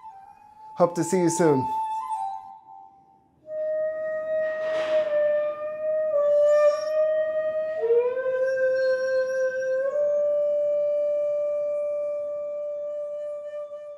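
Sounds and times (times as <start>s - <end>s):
bamboo flute playing: 0.0s - 13.9s.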